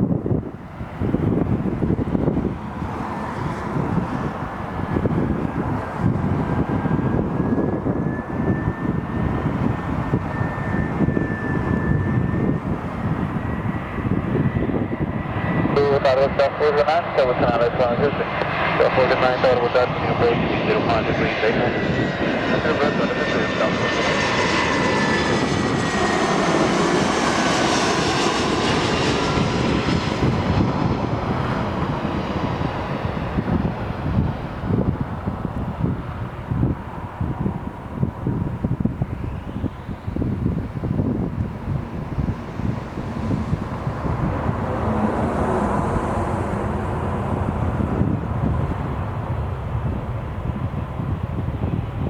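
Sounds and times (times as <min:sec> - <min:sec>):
high engine whine: 0:00.0 - 0:52.0
jet engines rumbling: 0:00.0 - 0:52.0.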